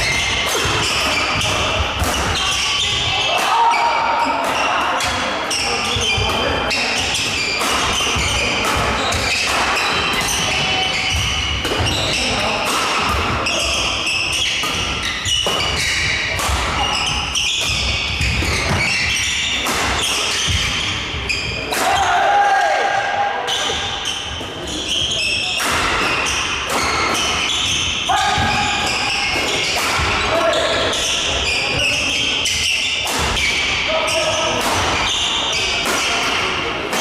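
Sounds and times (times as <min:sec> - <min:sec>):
people talking: 0:00.0 - 0:15.0, 0:15.6 - 0:26.1, 0:28.0 - 0:37.0
rackets hitting shuttlecock: 0:00.0 - 0:37.0.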